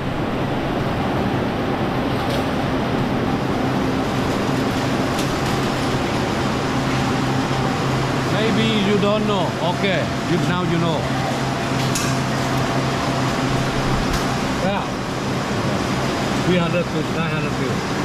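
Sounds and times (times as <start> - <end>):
factory machinery rushing noise: 0.0 - 18.0
low machine hum: 0.0 - 18.0.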